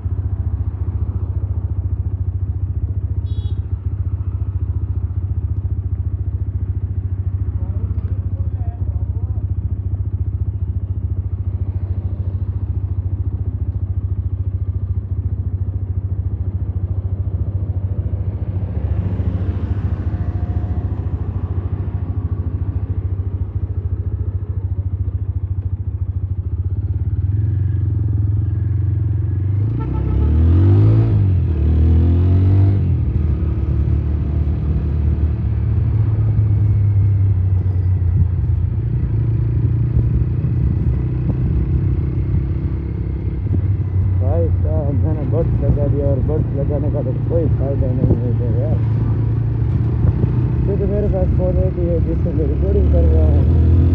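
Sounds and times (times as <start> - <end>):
motorcycle engine revving: 5.8 - 53.9.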